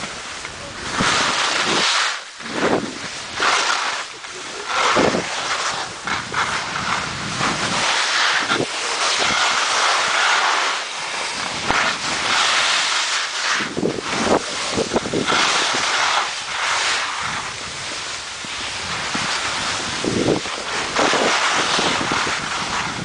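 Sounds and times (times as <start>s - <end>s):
wind buffeting microphone: 0.0s - 3.4s, 4.2s - 10.2s, 13.6s - 23.0s
skis scraping over snow: 0.0s - 23.0s.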